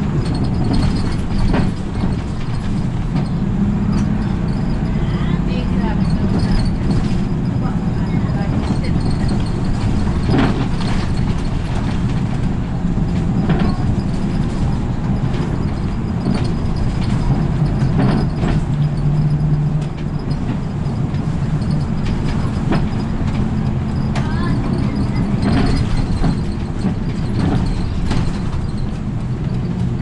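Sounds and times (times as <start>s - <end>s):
bus engine and road rumble: 0.0s - 30.0s
knocks and rattles: 0.0s - 30.0s.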